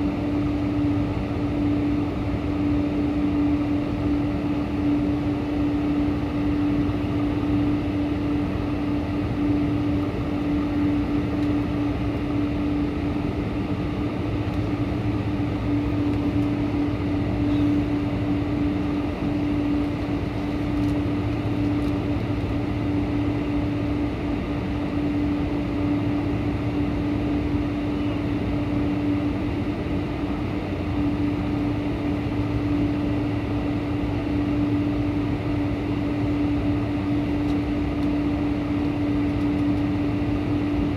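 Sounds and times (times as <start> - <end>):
airliner cabin noise: 0.0 - 40.9
constant low hum: 0.0 - 40.9.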